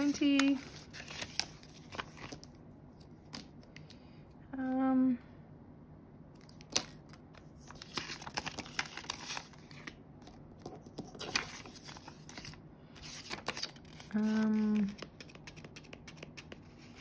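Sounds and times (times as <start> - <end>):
banknotes crinkling and rustling: 0.0 - 4.0, 6.4 - 17.0.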